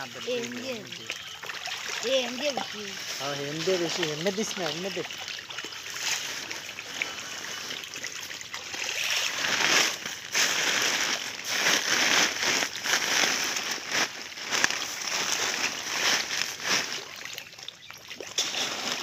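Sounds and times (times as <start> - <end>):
fish splashing at water surface: 0.0 - 19.0.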